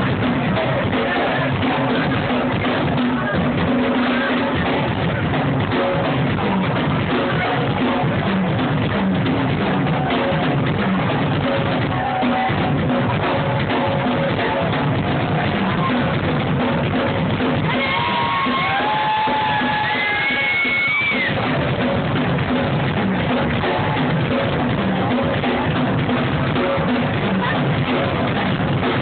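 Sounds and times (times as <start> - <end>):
drum kit with bass drum: 0.0 - 29.0
live rock band playing: 0.0 - 29.0.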